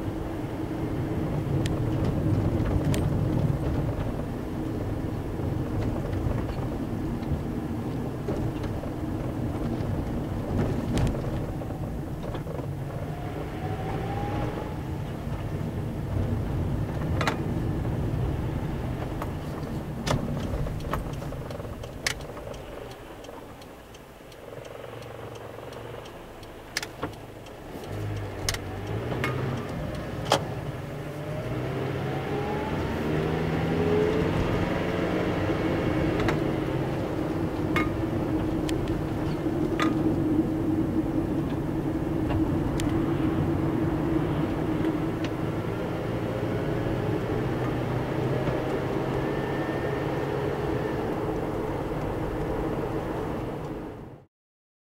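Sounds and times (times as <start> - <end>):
car engine accelerating: 0.0 - 54.3
road noise: 0.0 - 54.3.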